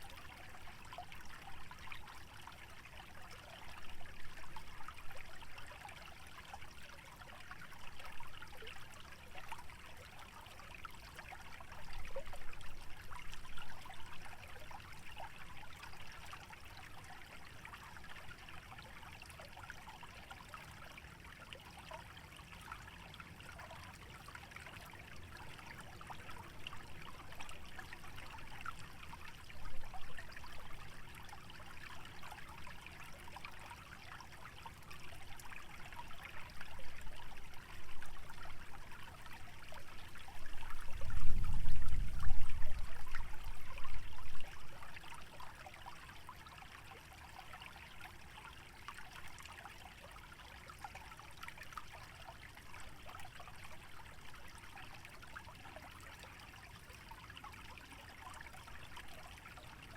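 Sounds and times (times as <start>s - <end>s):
stream trickling and babbling: 0.0s - 59.9s.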